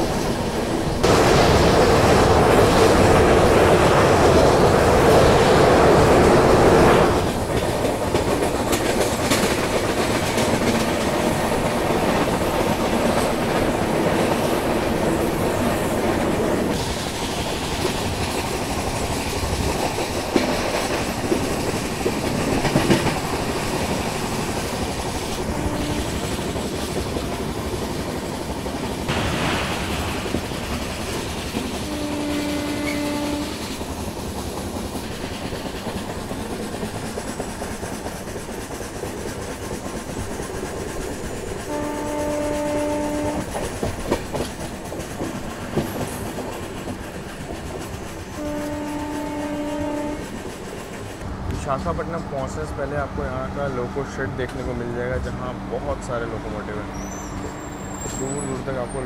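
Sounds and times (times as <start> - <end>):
clickety-clack of rail joints: 0.0 - 59.0
train wheels rumbling on rails: 0.0 - 59.0.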